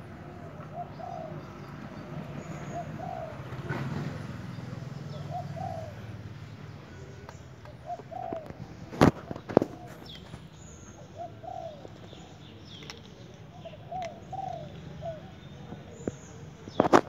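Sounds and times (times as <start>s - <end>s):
dove cooing: 0.0s - 6.3s, 6.9s - 17.0s.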